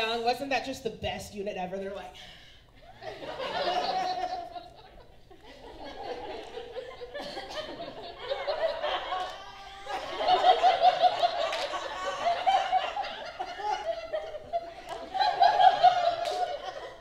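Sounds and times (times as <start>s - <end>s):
people laughing: 2.8s - 17.0s.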